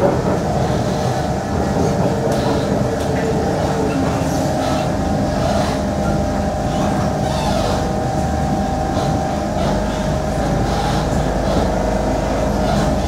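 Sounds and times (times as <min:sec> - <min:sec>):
train motor whine: 0:00.0 - 0:13.0
train wheels rumbling on rail: 0:00.0 - 0:13.0.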